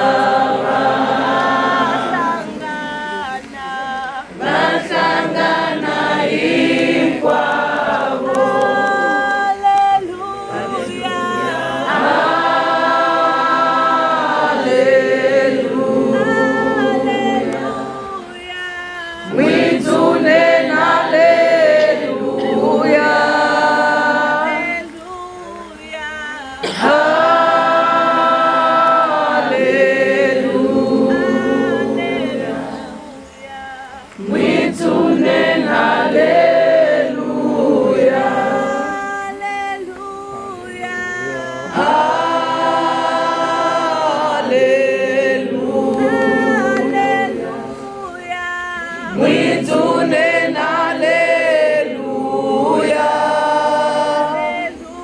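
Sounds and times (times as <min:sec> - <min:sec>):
crowd singing unaccompanied: 0:00.0 - 0:55.0.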